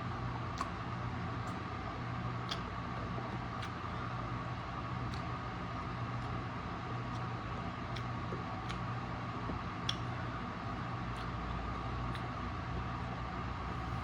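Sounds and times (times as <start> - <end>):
fan-like hum: 0.0 - 14.0.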